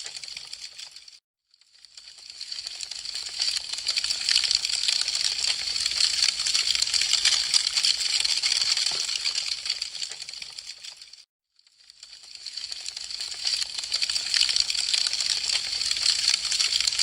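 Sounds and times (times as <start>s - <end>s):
wood fire crackling: 0.0s - 1.2s, 1.9s - 11.2s, 11.9s - 17.0s.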